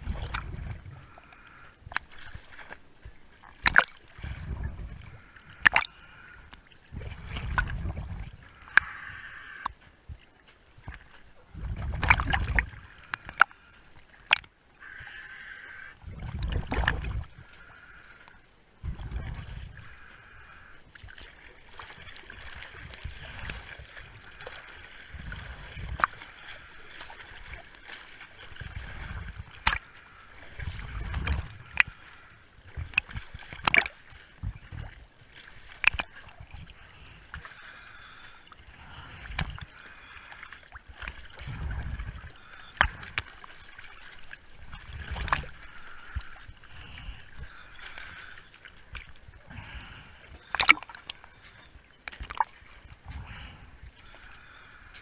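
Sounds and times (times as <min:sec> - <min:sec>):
water sloshing against microphone: 0:00.0 - 0:55.0.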